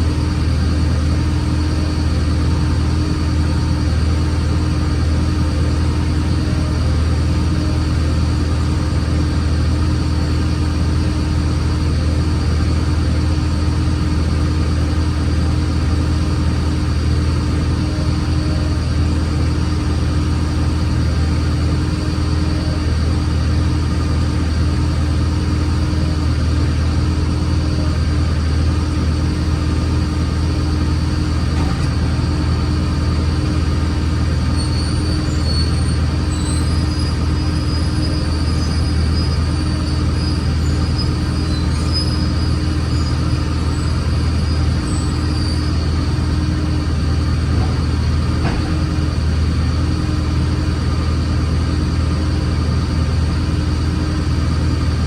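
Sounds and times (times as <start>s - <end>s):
heavy vehicle engine droning: 0.0s - 55.0s.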